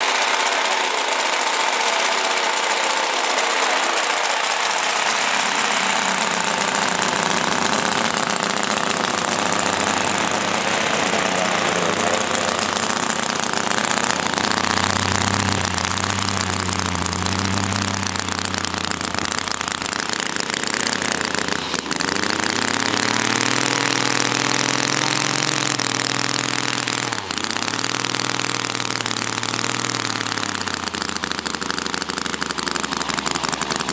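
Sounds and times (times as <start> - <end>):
model radial engine running: 0.0 - 33.9.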